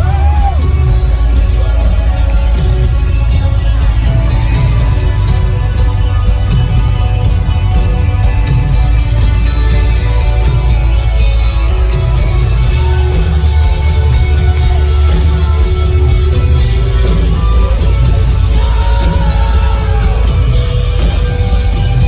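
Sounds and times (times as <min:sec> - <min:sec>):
electric guitar: 0:00.0 - 0:22.0
heavy bass: 0:00.0 - 0:22.0
rock band playing: 0:00.0 - 0:22.0.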